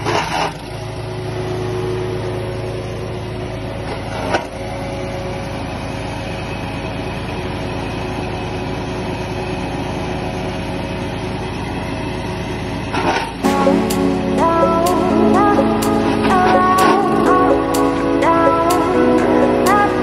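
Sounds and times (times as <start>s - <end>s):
wood chipper engine running: 0.0s - 20.0s.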